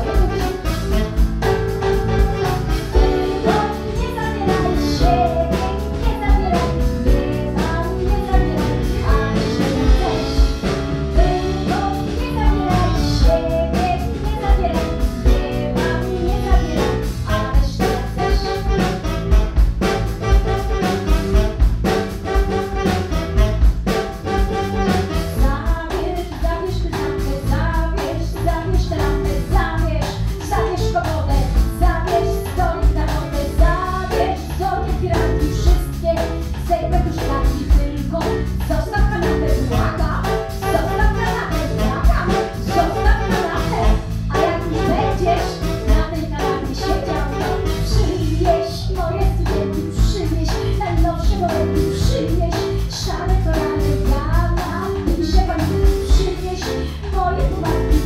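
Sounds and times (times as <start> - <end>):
woman singing into a microphone: 0.0 - 19.0, 25.1 - 58.0
band with guitar and keyboard: 0.0 - 58.0.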